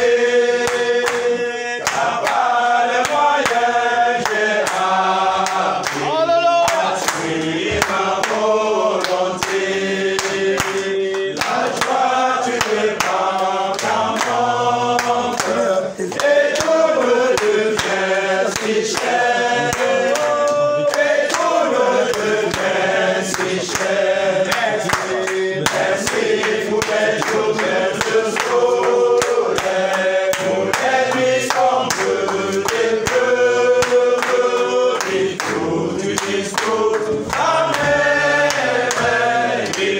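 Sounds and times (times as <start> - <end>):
men singing a hymn: 0.0 - 39.9
rhythmic hand clapping: 0.0 - 39.9.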